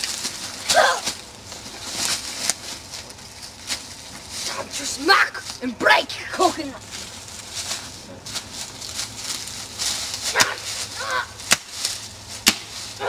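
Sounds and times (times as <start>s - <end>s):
rustling in dry leaves: 0.0s - 13.0s.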